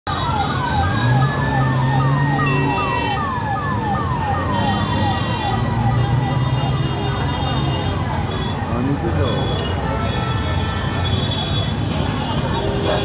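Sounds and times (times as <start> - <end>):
fire engine siren: 0.1 - 13.0.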